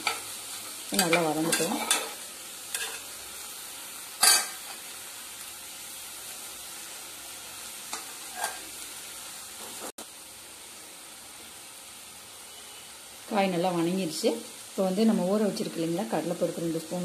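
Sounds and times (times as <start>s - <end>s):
cabbage sizzling in oil: 0.0s - 17.0s.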